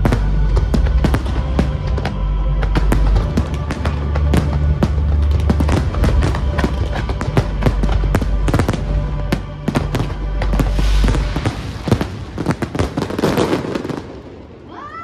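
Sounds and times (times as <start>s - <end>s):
fireworks bangs and crackles: 0.0s - 14.8s.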